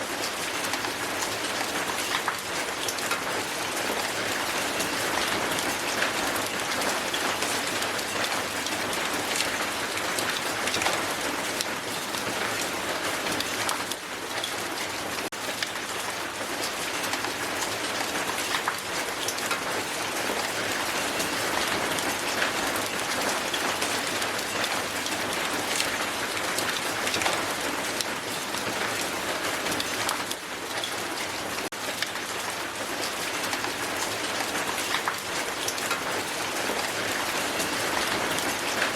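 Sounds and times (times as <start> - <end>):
hail falling on ground: 0.0 - 38.9.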